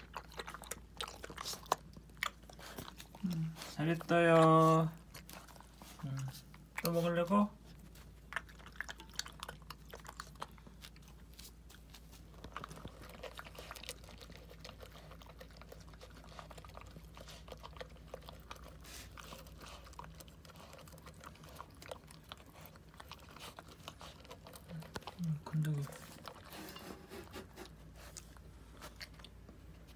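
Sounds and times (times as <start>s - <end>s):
dog crunching dry kibble: 0.0s - 29.9s.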